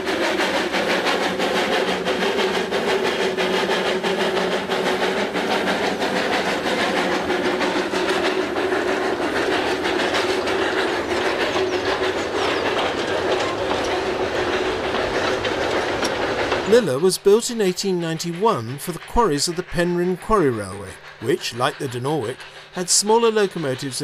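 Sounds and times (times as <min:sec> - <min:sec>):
steam locomotive exhaust beats: 0:00.0 - 0:24.0
wagons rattling on rails: 0:00.0 - 0:24.0.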